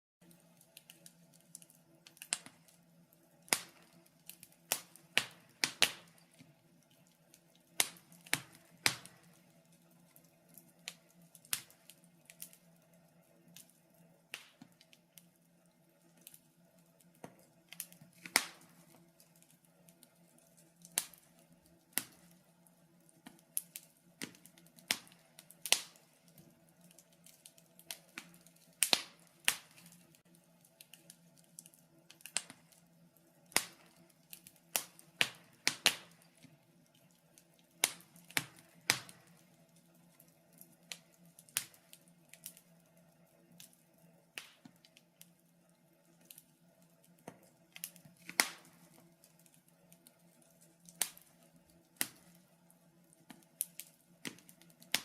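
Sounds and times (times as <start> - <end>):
wood fire crackling: 0.2 - 55.0.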